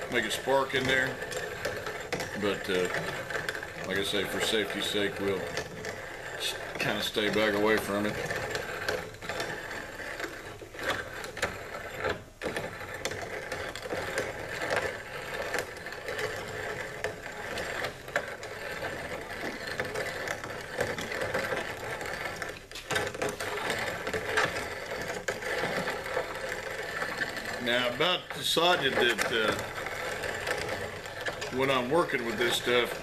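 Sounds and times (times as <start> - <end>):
grain grinder grinding: 0.0 - 33.0.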